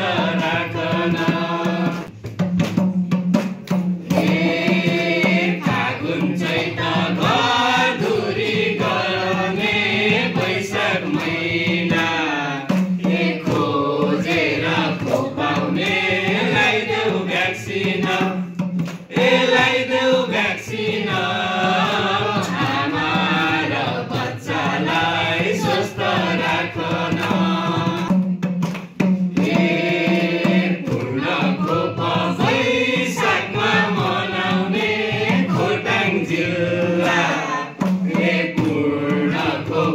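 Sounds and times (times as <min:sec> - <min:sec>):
group singing into microphones: 0:00.0 - 0:02.2, 0:04.0 - 0:39.9
percussion beat: 0:00.0 - 0:39.9.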